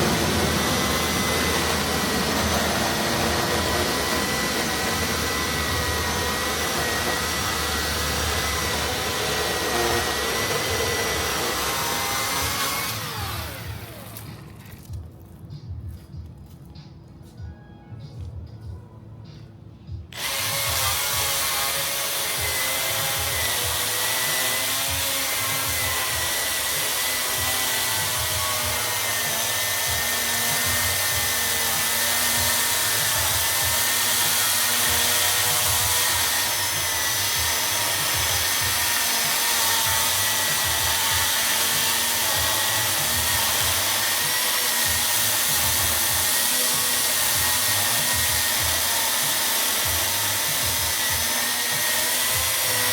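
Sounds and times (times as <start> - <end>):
electric chainsaw running: 0.0 - 14.9, 20.1 - 52.9.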